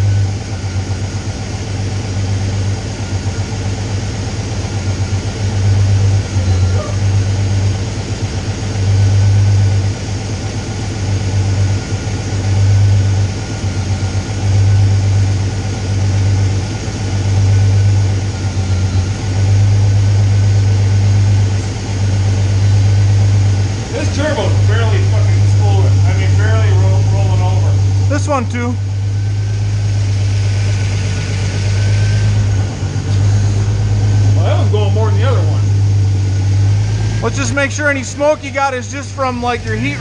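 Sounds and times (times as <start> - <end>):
car engine idling unevenly: 0.0 - 40.0.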